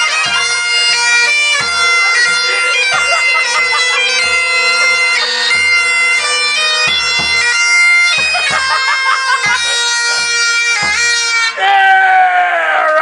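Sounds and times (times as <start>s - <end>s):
bass drum beating: 0.0s - 11.5s
bagpipes playing a tune: 0.0s - 11.6s.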